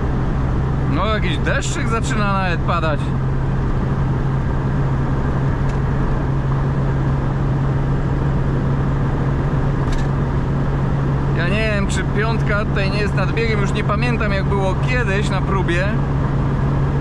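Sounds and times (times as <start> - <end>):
car engine drone from inside: 0.0 - 17.0
wind and road noise: 0.0 - 17.0.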